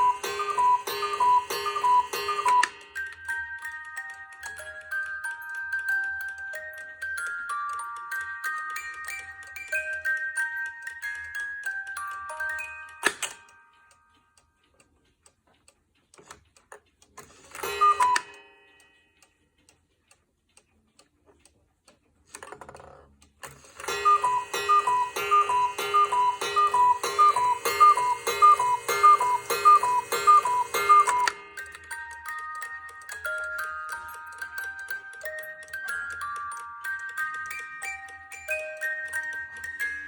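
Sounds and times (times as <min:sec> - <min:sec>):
cuckoo clock call: 0:00.0 - 0:14.9, 0:17.5 - 0:19.5, 0:23.4 - 0:40.0
music box tune: 0:00.0 - 0:14.9, 0:17.4 - 0:19.6, 0:23.4 - 0:40.0
clock mechanism whirring and clacking: 0:00.0 - 0:40.0
clock ticking: 0:00.0 - 0:40.0.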